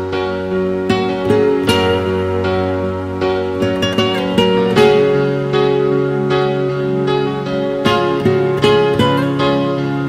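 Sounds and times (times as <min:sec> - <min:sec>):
held chord: 0:00.0 - 0:10.0
plucked notes: 0:00.0 - 0:10.0.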